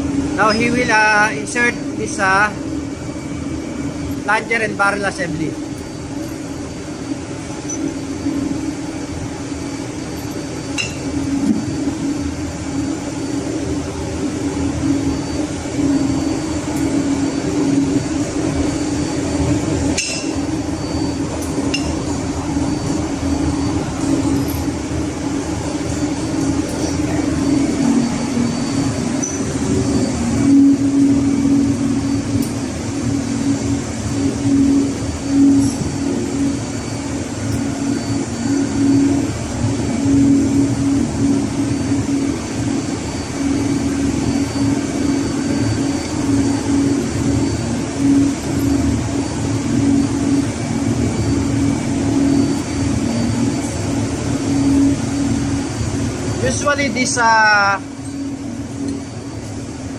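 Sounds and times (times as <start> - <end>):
ship engine-room machinery drone: 0.0 - 59.9.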